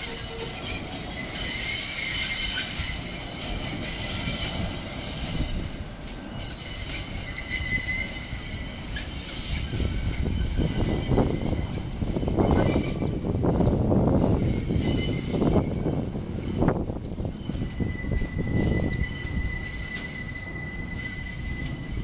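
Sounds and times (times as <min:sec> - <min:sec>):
low train rumble: 0:00.0 - 0:22.0
train wheels squealing: 0:00.0 - 0:22.0.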